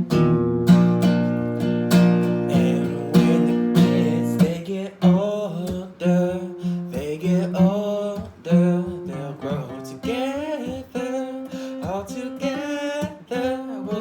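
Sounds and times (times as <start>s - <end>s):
acoustic guitar strumming: 0.0s - 14.0s
bending guitar melody: 0.0s - 14.0s.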